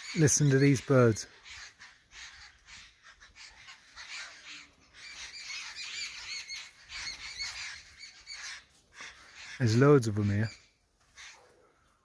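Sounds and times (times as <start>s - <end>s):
flock of birds chattering: 0.0s - 12.0s.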